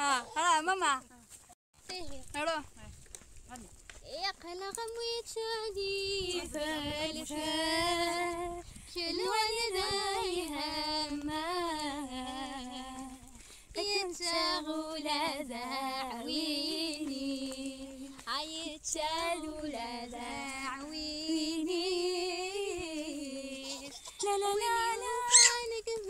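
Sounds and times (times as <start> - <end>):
woman singing unaccompanied: 4.0 - 26.0.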